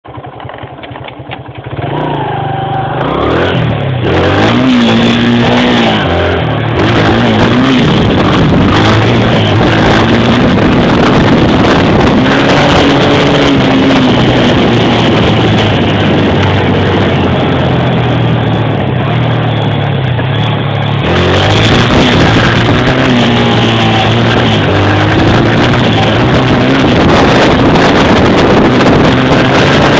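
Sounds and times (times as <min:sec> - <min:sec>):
dirt bike engine revving: 0:01.6 - 0:29.9
wind rushing over microphone: 0:01.8 - 0:29.9.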